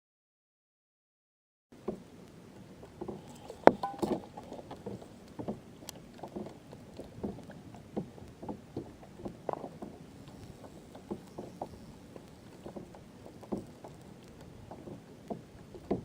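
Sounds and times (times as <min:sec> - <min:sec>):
paddle splashing in water: 0:01.8 - 0:16.0.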